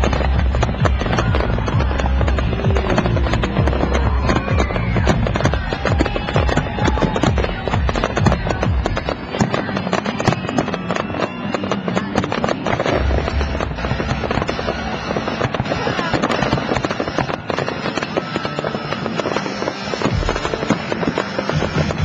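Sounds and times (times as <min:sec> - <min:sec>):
fireworks booming bursts: 0:00.0 - 0:22.0
fireworks crackling: 0:00.0 - 0:22.0.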